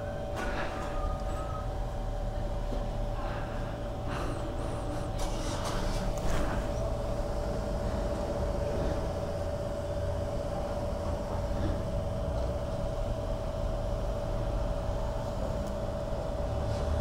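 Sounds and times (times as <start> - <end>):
fuel pump whining: 0.0 - 17.0.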